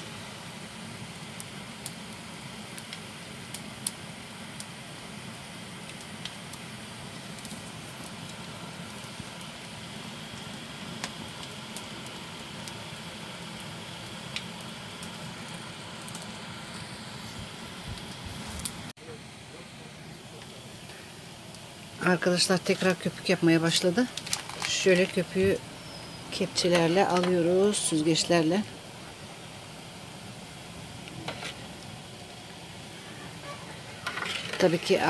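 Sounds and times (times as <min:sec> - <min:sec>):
liquid boiling and foaming: 0:00.0 - 0:35.0
wood fire crackling and popping: 0:00.0 - 0:35.0.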